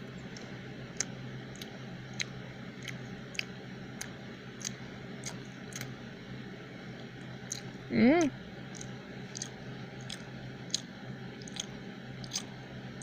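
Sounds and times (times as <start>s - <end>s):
low hum: 0.0s - 13.0s
person chewing crunchy food: 0.1s - 6.0s, 6.9s - 7.8s, 8.6s - 13.0s.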